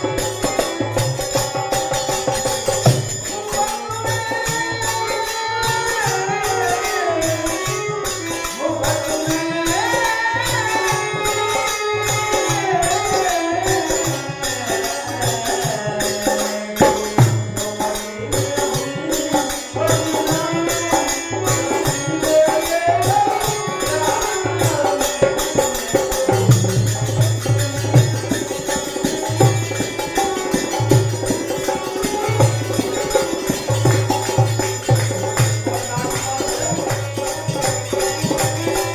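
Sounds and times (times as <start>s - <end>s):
hand drum beat: 0.0s - 6.4s, 9.3s - 38.9s
jingling percussion: 0.0s - 38.9s.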